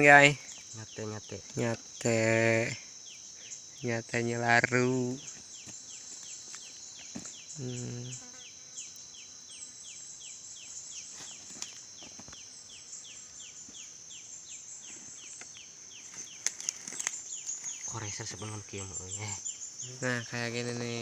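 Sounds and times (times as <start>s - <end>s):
insects droning high-pitched: 0.0s - 21.0s.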